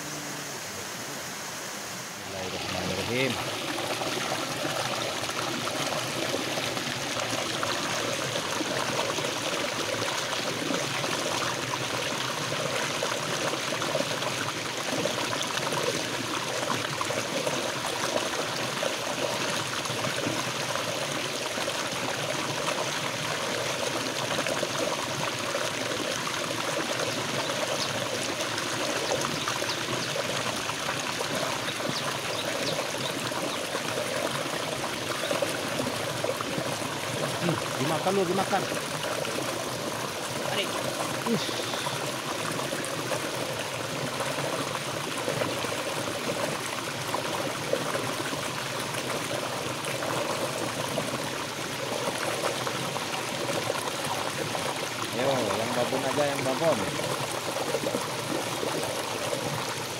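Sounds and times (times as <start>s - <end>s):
water rushing over boulders: 0.0s - 59.9s.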